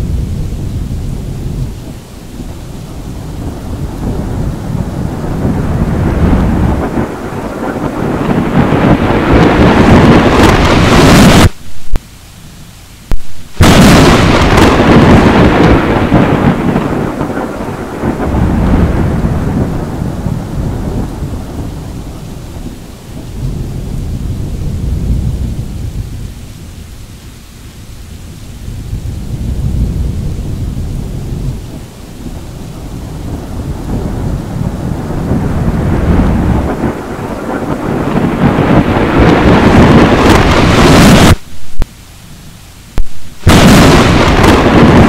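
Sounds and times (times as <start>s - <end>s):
thunder crack: 0.0s - 12.0s, 13.1s - 26.2s, 28.6s - 41.9s, 43.0s - 45.0s
thunder rumbling: 0.0s - 12.2s, 13.0s - 42.0s, 42.8s - 45.0s.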